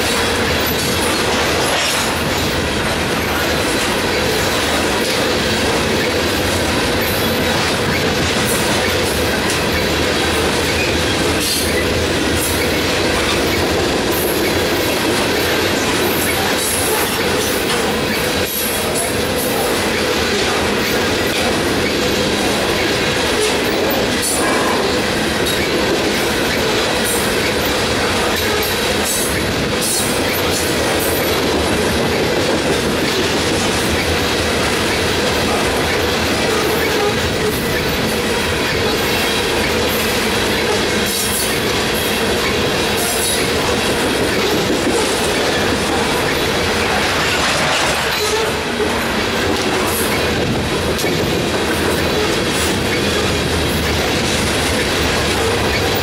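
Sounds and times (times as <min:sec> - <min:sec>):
rail joint clicks: 0:00.0 - 0:56.0
train wheels rumbling on rail: 0:00.0 - 0:56.0.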